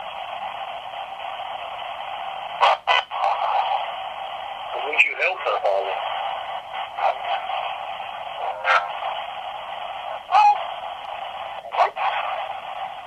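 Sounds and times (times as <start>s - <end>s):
radio static hiss: 0.0s - 13.0s
snatches of radio stations: 0.0s - 13.0s.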